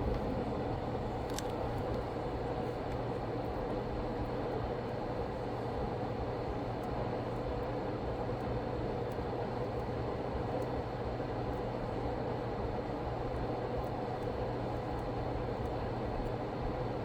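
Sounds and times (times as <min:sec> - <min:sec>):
hot-air station blowing with hum: 0:00.0 - 0:17.0.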